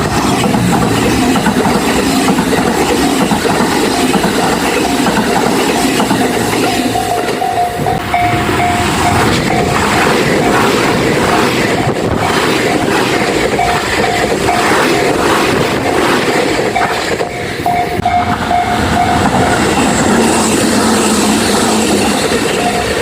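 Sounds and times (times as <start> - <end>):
crossing warning bell ringing: 0.0 - 23.0
train wheels clacking over rail joints: 0.0 - 23.0.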